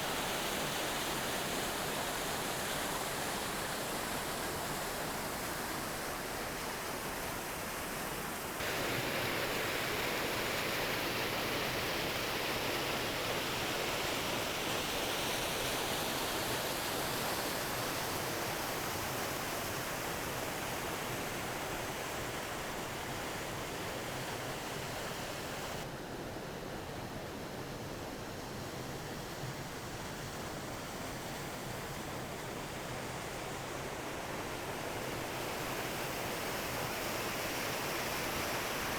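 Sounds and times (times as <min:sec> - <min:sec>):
small waterfall rushing: 0:00.0 - 0:25.9, 0:27.7 - 0:38.9.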